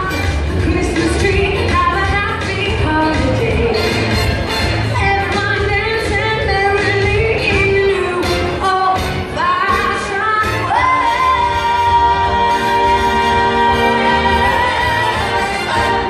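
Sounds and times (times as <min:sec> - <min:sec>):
woman singing into microphone: 0:00.0 - 0:04.2, 0:05.0 - 0:16.0
backing music with steady beat: 0:00.0 - 0:16.0.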